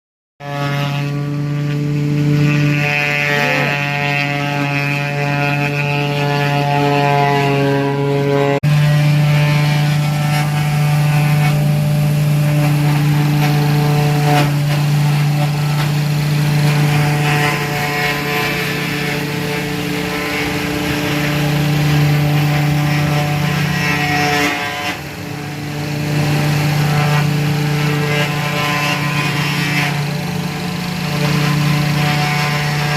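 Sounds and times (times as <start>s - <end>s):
wood chipper engine running: 1.2s - 7.3s, 8.6s - 32.9s.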